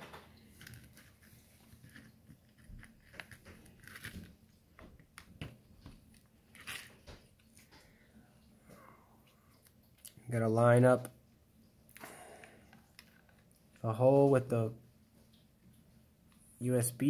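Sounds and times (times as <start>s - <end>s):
faint clicks and crackly rustling: 0.0s - 16.6s.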